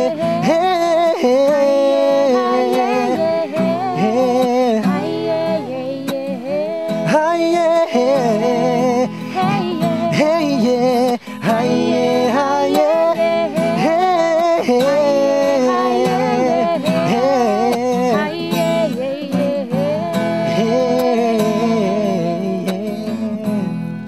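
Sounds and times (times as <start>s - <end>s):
person singing wavering melody: 0.0s - 23.4s
acoustic guitar: 0.0s - 24.0s.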